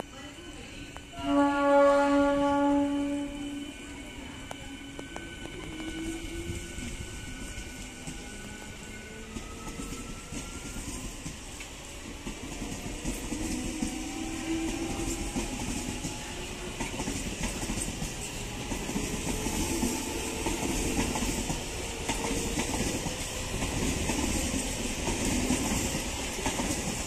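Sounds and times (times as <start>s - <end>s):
train wheels rushing on rails: 0.0s - 27.0s.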